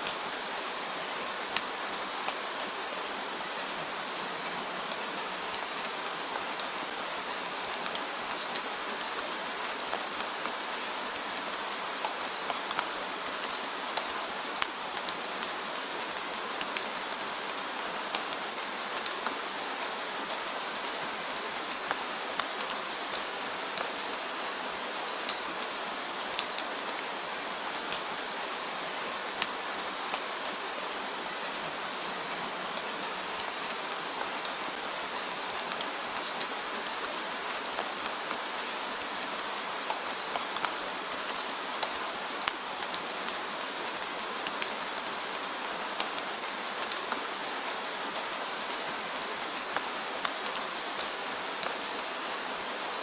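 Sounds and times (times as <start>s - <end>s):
steady rain hissing: 0.0s - 53.0s.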